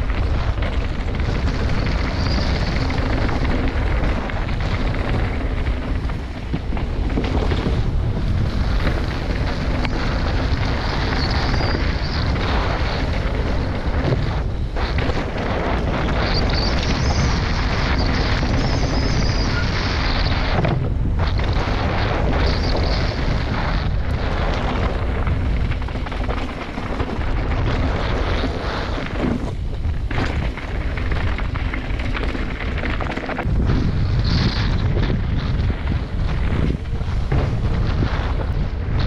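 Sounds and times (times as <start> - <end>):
bike tyres rattling on gravel: 0.0 - 39.0
wind buffeting microphone: 0.0 - 39.0.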